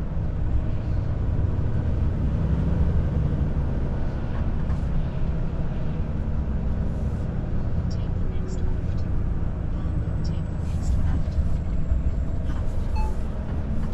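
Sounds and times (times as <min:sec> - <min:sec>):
road noise: 0:00.0 - 0:13.9
truck diesel engine drone: 0:00.0 - 0:13.9.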